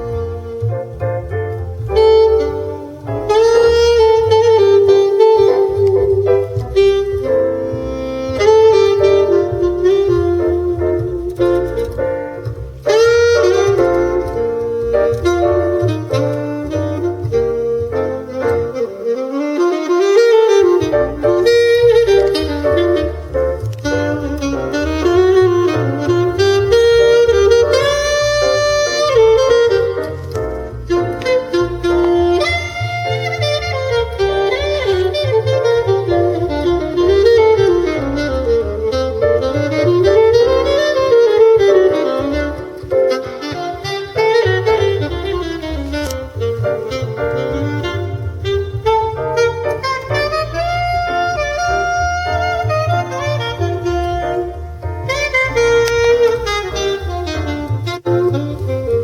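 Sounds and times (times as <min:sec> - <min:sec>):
horn melody: 0:00.0 - 0:59.0
jazz trio on car speakers: 0:00.0 - 0:59.0
upright bass line: 0:00.0 - 0:59.0.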